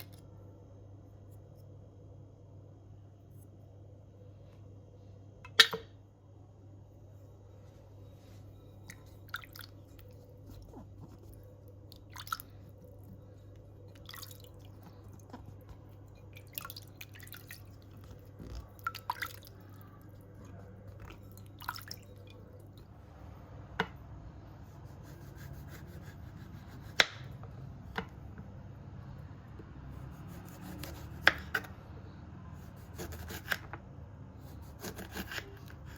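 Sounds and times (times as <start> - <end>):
steady low hum: 0.0 - 33.2.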